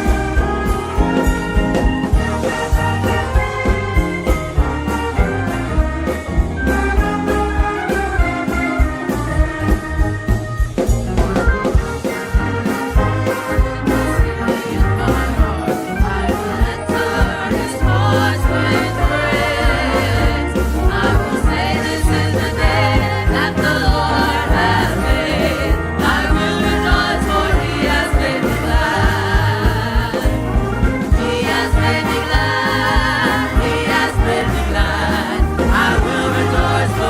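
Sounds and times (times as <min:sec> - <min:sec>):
group singing gospel music: 0:00.0 - 0:10.2, 0:11.7 - 0:37.0
band with drums and bass: 0:00.0 - 0:37.0.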